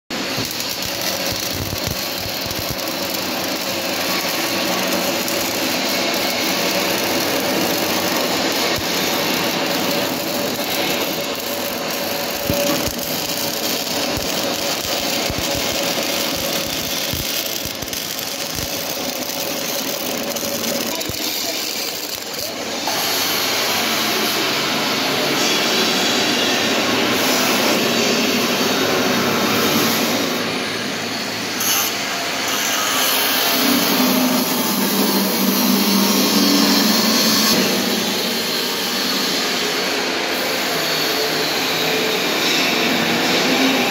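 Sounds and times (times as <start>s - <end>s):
welding arc crackling hiss: 0.1s - 43.9s
workshop machine noise: 0.1s - 43.9s.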